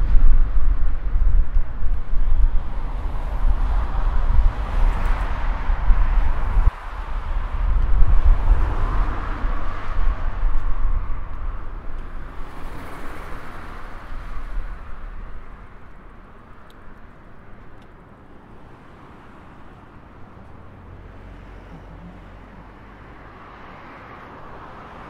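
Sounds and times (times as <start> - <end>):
distant traffic: 0.0 - 25.0.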